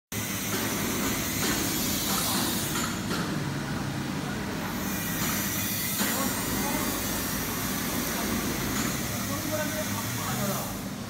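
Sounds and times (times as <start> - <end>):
laser cutting machine hum and hiss: 0.1 - 11.0.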